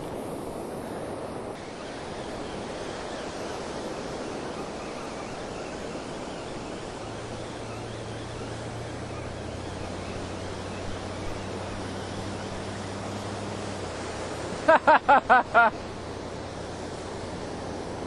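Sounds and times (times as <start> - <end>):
ocean surf washing: 0.0 - 18.0.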